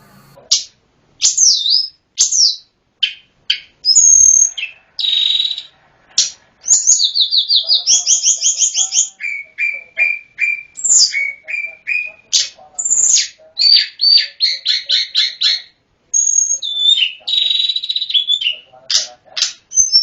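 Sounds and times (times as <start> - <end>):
flycatcher singing: 0.0 - 20.0.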